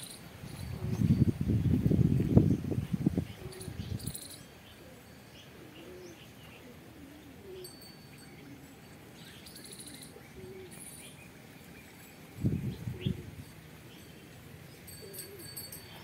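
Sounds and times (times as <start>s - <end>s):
birds chirping: 0.0s - 16.0s
doves cooing: 3.1s - 16.0s.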